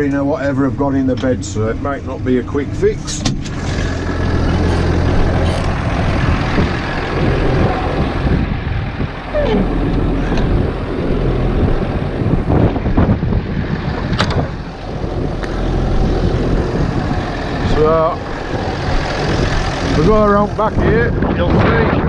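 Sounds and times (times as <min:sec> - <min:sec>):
tractor engine droning: 0:00.0 - 0:21.3.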